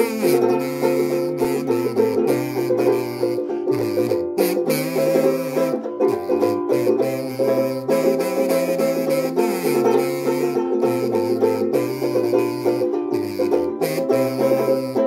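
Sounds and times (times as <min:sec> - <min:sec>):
banjo strummed and picked: 0:00.0 - 0:15.0
harmonica playing: 0:00.0 - 0:15.0.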